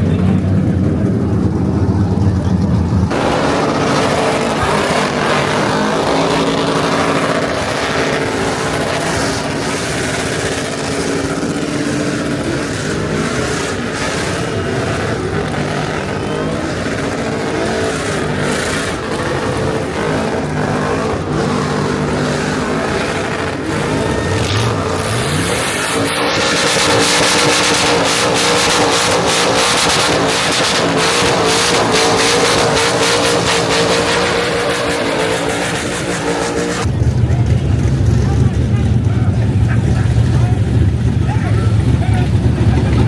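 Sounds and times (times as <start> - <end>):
truck engine revving: 0.0 - 43.0.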